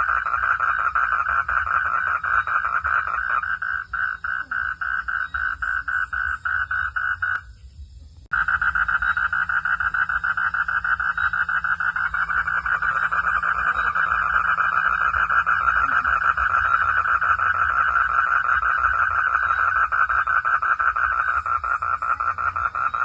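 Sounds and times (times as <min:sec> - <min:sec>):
frog calling in pulsed trill: 0:00.0 - 0:07.5, 0:08.3 - 0:23.0.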